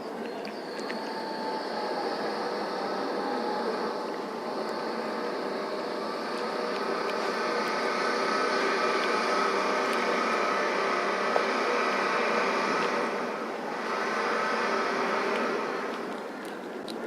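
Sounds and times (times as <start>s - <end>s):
mechanical drone: 0.0s - 16.4s
faint hum: 0.0s - 17.0s.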